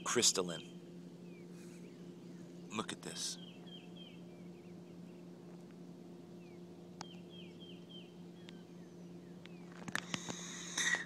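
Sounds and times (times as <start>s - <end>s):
bird chirps: 0.0s - 5.6s, 6.4s - 9.8s
steady low hum: 0.0s - 11.0s.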